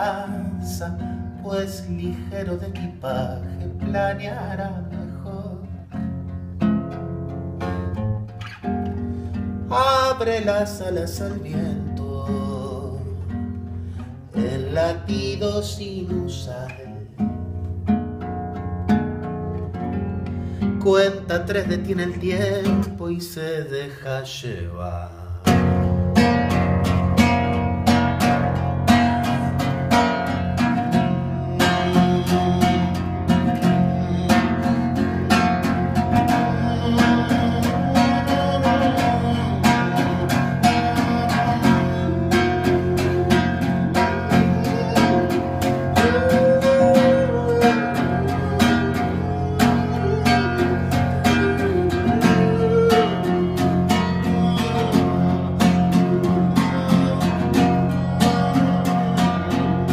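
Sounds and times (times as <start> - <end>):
classical guitar chords: 0.0 - 59.9.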